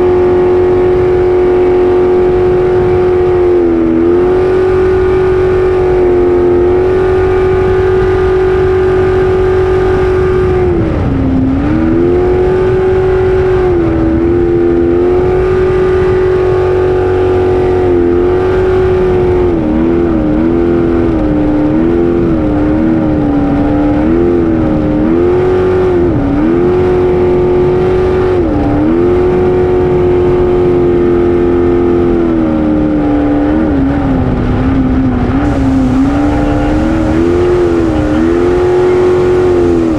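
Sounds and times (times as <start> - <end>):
boat engine at high revs: 0.0 - 39.9.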